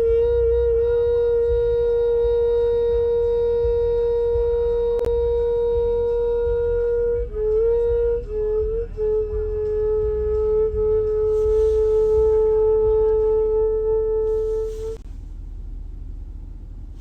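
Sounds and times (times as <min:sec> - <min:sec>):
air conditioning humming: 0:00.0 - 0:17.0.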